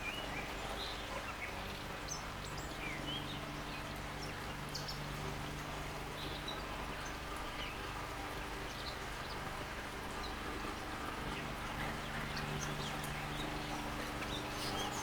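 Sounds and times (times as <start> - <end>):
fountain water trickling: 0.0 - 15.0.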